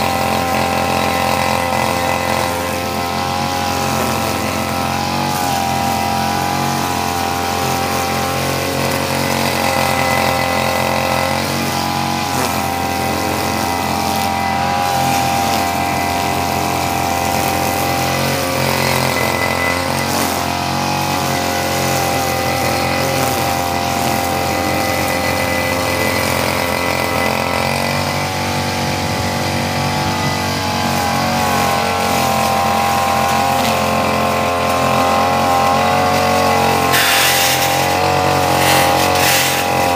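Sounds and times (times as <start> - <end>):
brush cutter engine trimming grass: 0.0 - 39.9.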